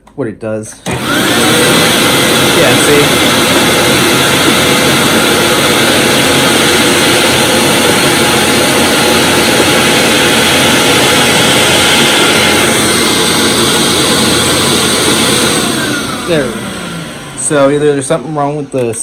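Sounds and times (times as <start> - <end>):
vacuum cleaner running: 0.8 - 19.0.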